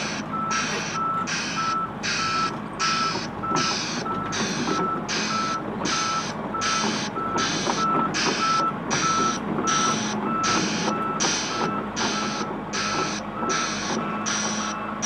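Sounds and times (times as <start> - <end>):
diesel engine running: 0.0 - 15.0
travel alarm beeping: 0.0 - 15.0.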